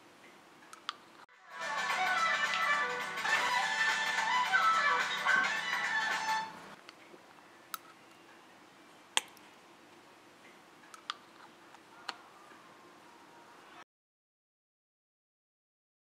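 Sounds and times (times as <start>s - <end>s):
faint steady hum: 0.0s - 13.8s.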